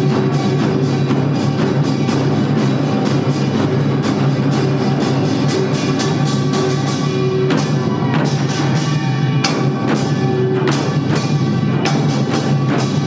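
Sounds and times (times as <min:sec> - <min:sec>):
drums playing fast rhythm: 0:00.0 - 0:13.0.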